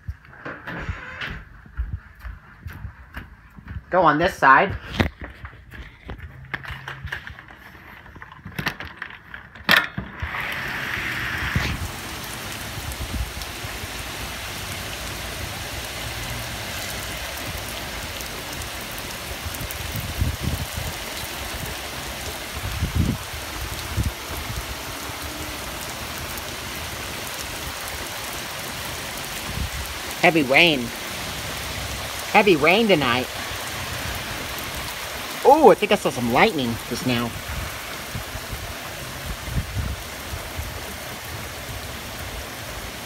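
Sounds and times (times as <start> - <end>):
heavy rain on concrete: 4.8 - 43.0.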